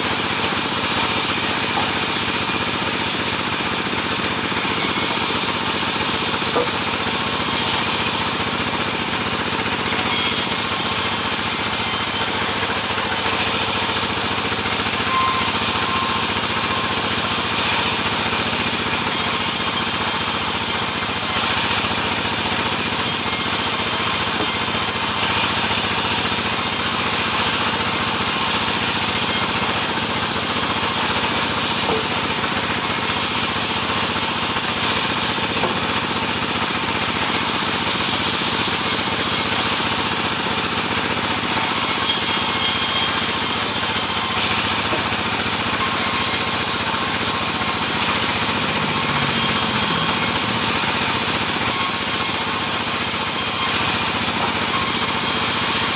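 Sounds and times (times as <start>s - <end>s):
sawmill saw cutting wood: 0.0s - 55.9s.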